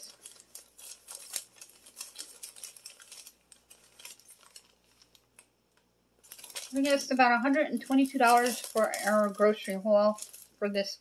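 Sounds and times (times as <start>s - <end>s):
paper receipts rustling: 0.0s - 5.5s, 6.2s - 10.8s.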